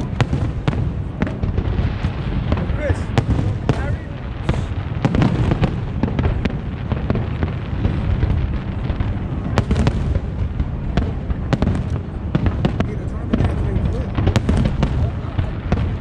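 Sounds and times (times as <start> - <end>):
fireworks bangs and crackles: 0.0 - 16.0
low rumble of shells bursting: 0.0 - 16.0.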